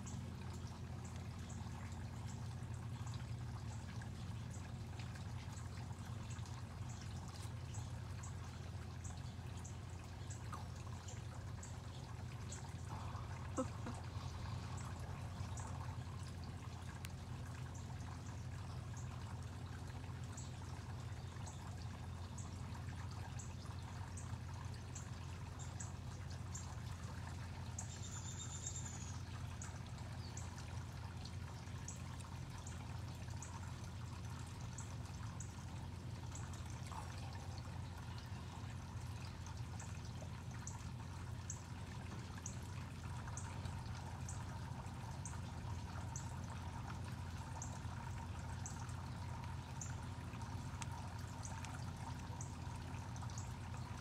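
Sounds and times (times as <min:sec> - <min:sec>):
low steady hum: 0:00.0 - 0:54.0
water trickling and pouring: 0:00.0 - 0:54.0.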